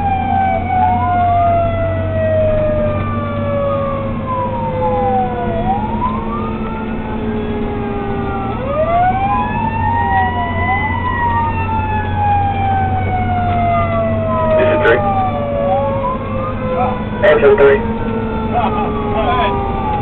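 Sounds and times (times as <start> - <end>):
fire engine sirens wailing: 0.0 - 20.0
fire truck engine drone: 0.0 - 20.0.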